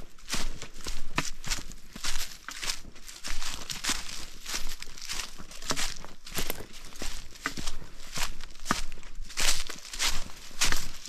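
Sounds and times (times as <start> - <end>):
footsteps on leaves and stones: 0.0 - 11.0.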